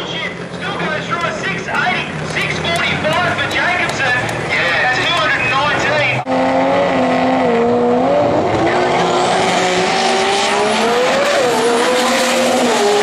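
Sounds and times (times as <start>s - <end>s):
drag cars revving and launching: 0.0s - 13.0s.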